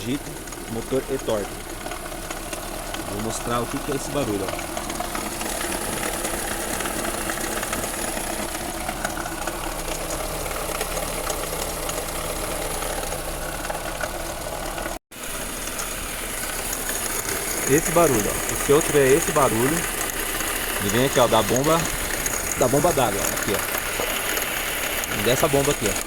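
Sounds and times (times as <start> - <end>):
car engine idling: 0.0 - 26.0
water pump noise: 0.0 - 26.0.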